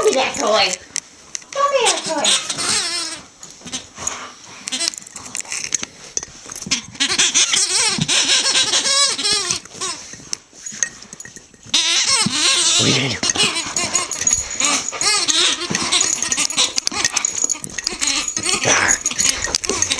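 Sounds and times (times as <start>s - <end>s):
dog chewing squeaky toy: 0.0s - 19.9s
wavering toy squeaks: 1.6s - 19.9s.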